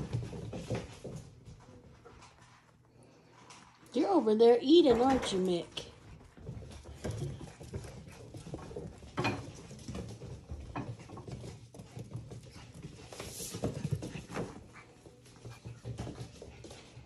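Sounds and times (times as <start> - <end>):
paw taps and scuffles: 0.0 - 2.8, 6.0 - 17.0
puppies scampering and tussling: 0.0 - 17.0.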